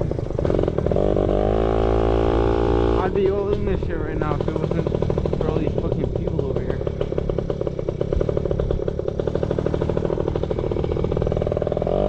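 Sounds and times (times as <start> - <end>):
small two-stroke engine running: 0.0 - 12.0.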